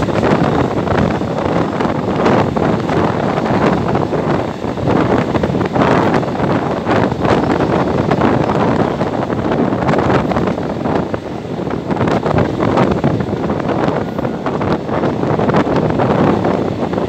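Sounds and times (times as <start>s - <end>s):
train running on rails: 0.0s - 17.0s
wind rushing over microphone: 0.0s - 17.0s.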